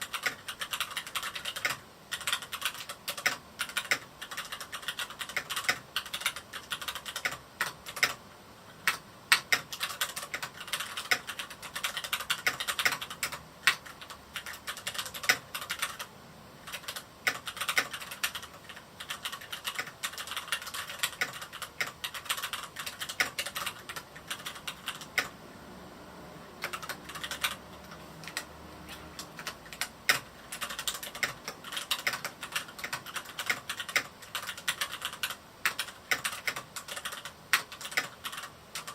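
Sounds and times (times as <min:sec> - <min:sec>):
mechanical keyboard typing: 0:00.0 - 0:25.4, 0:26.6 - 0:38.9.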